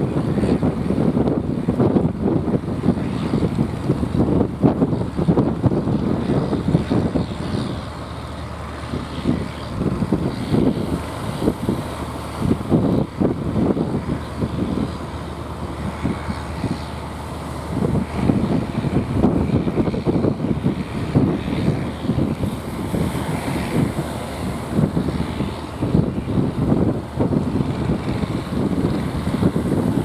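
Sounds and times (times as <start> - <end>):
boat engine droning: 0.0 - 30.0
water noise: 0.0 - 30.0
wind buffeting microphone: 0.0 - 30.0.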